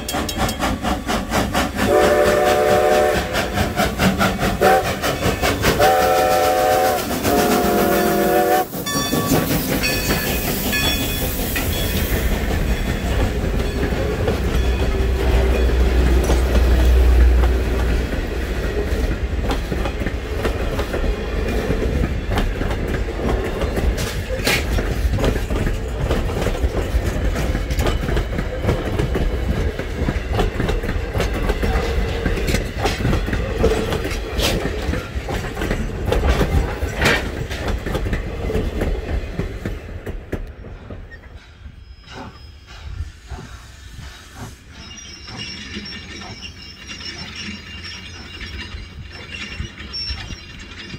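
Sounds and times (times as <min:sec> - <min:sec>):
train wheels clacking on rails: 0:00.0 - 0:50.9.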